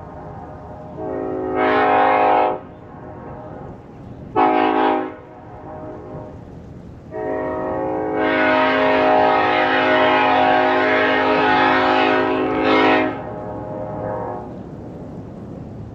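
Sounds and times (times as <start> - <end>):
train air horn blasts: 0.6 - 6.4, 7.1 - 14.6.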